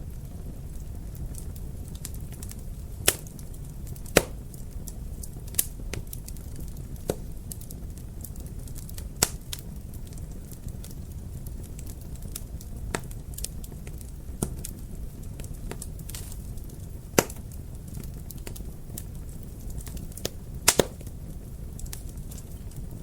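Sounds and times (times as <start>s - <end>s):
fire crackling: 0.0s - 23.0s
low fire rumble: 0.0s - 23.0s
sharp fire pops: 0.3s - 23.0s.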